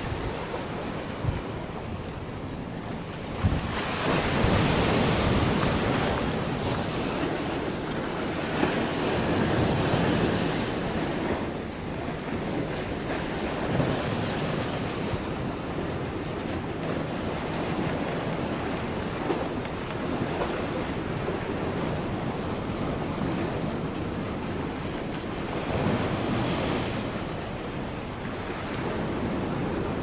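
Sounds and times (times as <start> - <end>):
small waves washing against concrete: 0.0 - 30.0
wind on microphone: 0.0 - 30.0.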